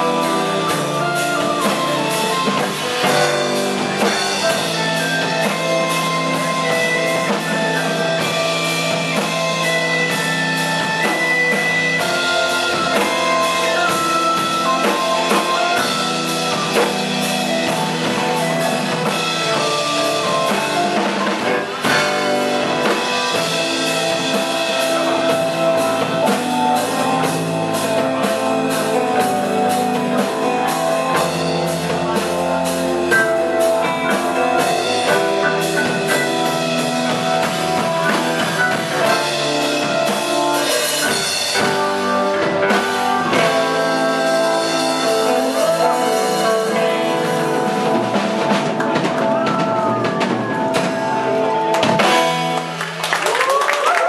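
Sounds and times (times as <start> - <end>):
electric bass: 0.0 - 53.2
drum kit drumming: 0.0 - 54.0
electric guitar: 0.0 - 54.0
electric keyboard: 0.0 - 54.0.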